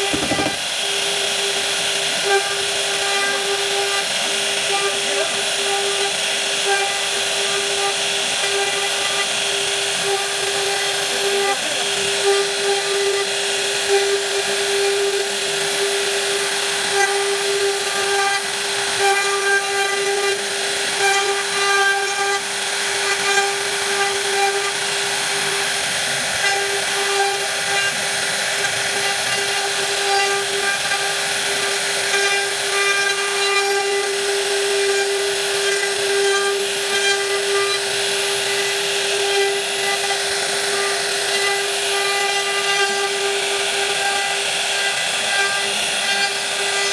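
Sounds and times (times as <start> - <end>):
woodworking power tool whining: 0.0 - 46.9.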